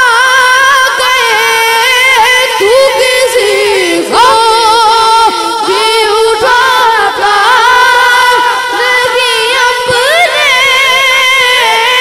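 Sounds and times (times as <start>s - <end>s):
boy singing into a microphone: 0.0s - 12.0s.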